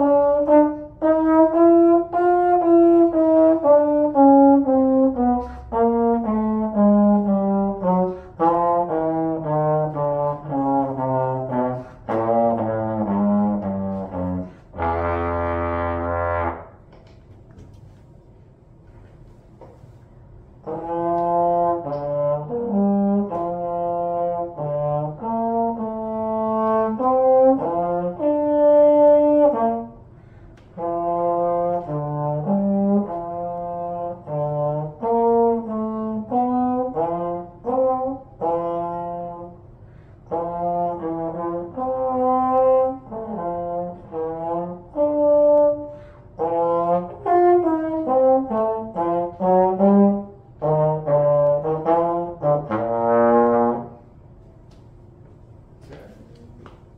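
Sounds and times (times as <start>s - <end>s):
solo trombone melody: 0.0s - 16.9s, 19.8s - 54.2s.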